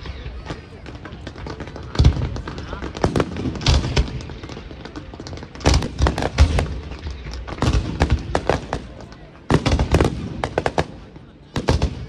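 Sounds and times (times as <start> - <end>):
fireworks bangs and booms: 0.0 - 12.0.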